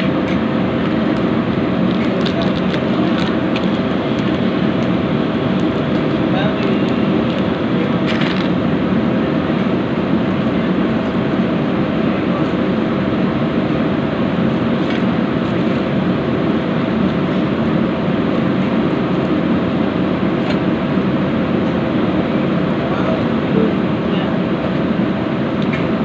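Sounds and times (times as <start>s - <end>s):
machine droning: 0.0s - 26.0s.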